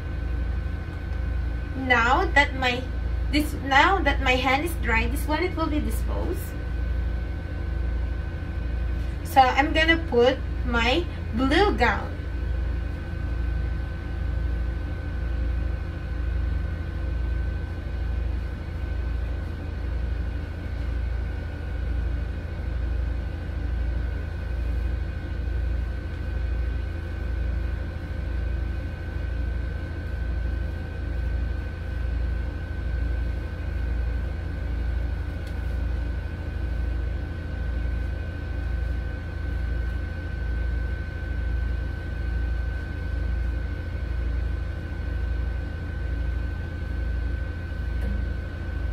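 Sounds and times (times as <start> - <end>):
low pulsing throb: 0.0 - 48.9
steady mechanical hum: 0.0 - 48.9
thin steady whine: 0.0 - 48.9.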